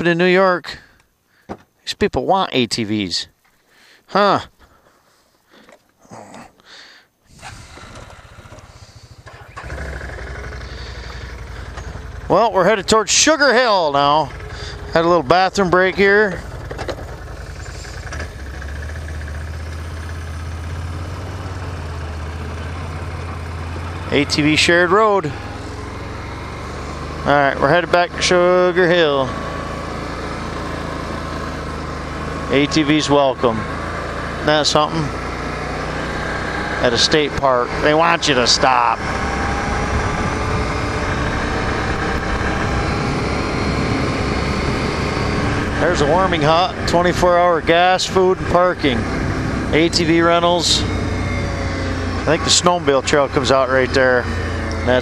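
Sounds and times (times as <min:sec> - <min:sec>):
engine idling: 0:07.4 - 0:29.3, 0:30.0 - 0:55.0.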